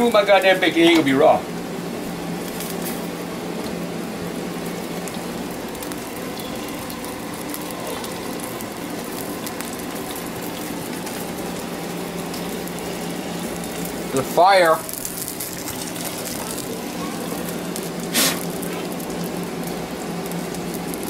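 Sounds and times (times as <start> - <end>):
bacon sizzling in a frying pan: 0.0 - 21.0.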